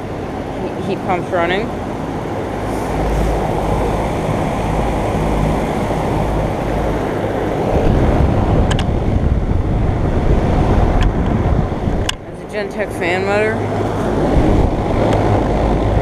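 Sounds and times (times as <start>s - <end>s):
heat pump fans whooshing rumble: 0.0s - 16.0s.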